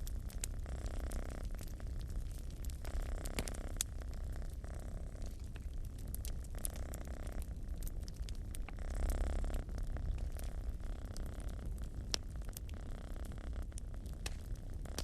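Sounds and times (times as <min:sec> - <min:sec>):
cat purring: 0:00.0 - 0:15.0
wood fire crackling and popping: 0:00.0 - 0:15.0.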